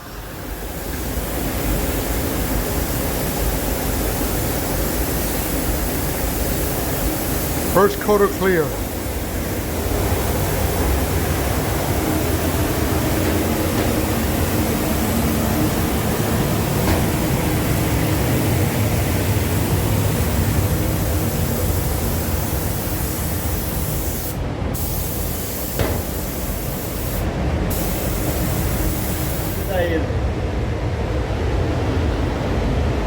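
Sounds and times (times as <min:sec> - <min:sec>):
low rumble of spray setup: 0:00.0 - 0:33.0
paint spray gun hissing: 0:00.3 - 0:29.9.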